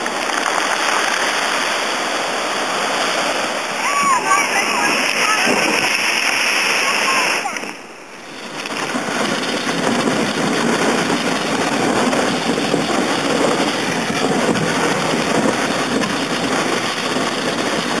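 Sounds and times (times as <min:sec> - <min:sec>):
kayak hull scraping over snow: 0:00.0 - 0:18.0.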